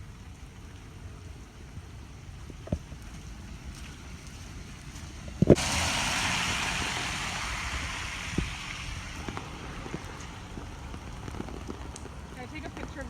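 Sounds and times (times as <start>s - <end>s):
storm rain and wind: 0.0s - 13.0s.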